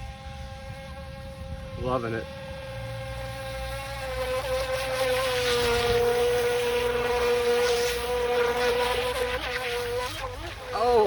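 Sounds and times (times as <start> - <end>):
electric motor high whine: 0.0 - 11.0.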